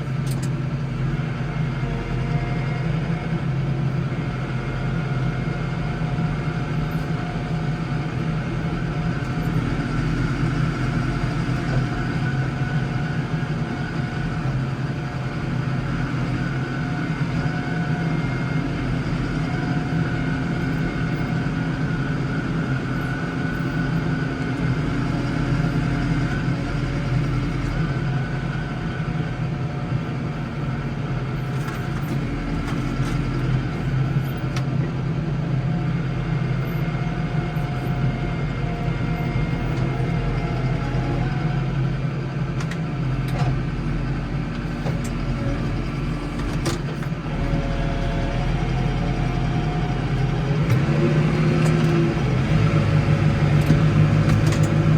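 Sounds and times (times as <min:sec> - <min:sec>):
garden tractor engine running: 0:00.0 - 0:54.9.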